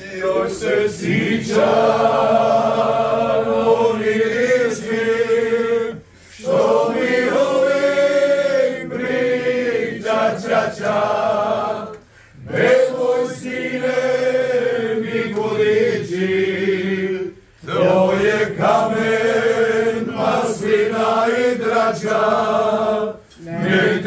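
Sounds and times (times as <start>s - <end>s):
men singing a cappella: 0.0s - 24.0s.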